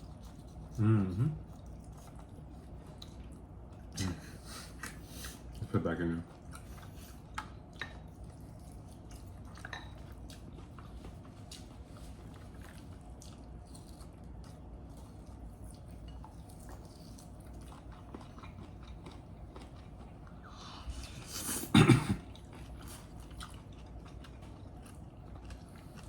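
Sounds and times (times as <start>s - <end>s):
chewing: 0.0s - 26.0s
low background hum: 0.0s - 26.0s.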